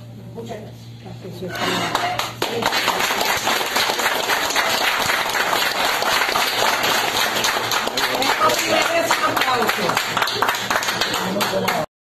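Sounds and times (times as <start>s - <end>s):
crowd applauding: 1.9s - 11.9s.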